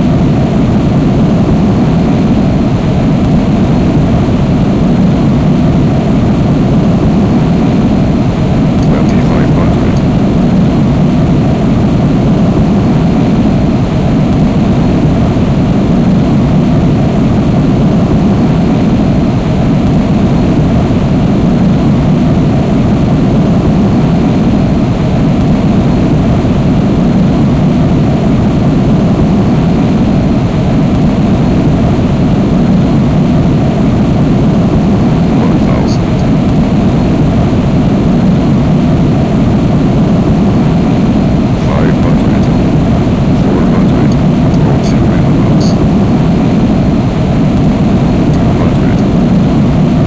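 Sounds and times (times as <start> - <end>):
jet engines rumbling: 0.0 - 50.0.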